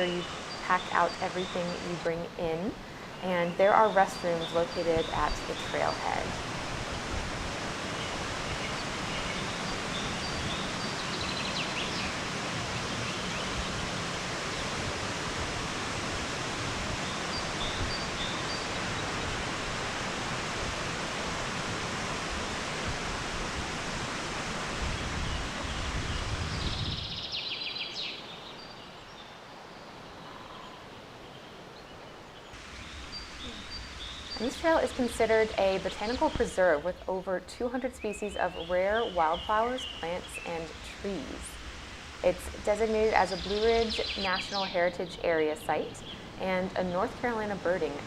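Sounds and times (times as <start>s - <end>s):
running water rushing: 0.0s - 27.1s, 27.9s - 37.2s, 38.8s - 48.0s.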